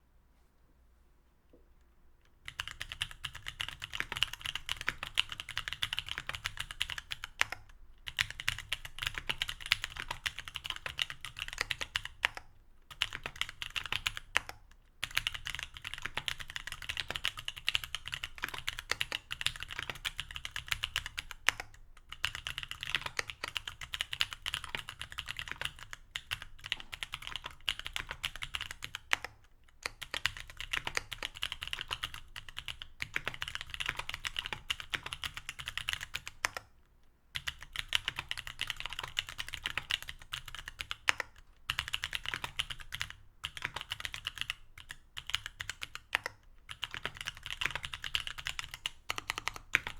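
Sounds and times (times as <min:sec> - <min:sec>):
mechanical keyboard typing: 0:02.4 - 0:36.7, 0:37.4 - 0:49.9.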